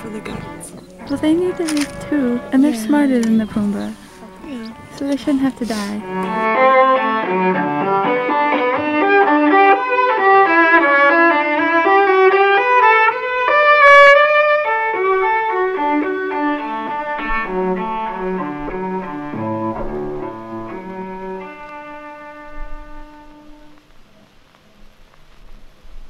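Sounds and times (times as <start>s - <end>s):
bowed strings led by violin: 0.0s - 23.9s.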